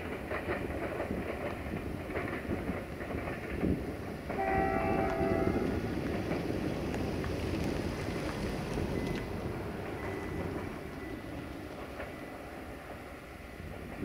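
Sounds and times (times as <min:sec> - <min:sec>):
diesel train rumbling: 0:00.0 - 0:14.0.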